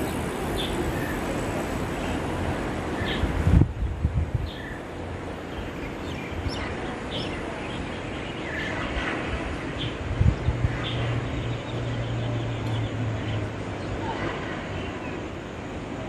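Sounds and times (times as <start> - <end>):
small birds chirping: 0.0 - 3.4, 4.4 - 15.4
outdoor background noise: 0.0 - 16.0.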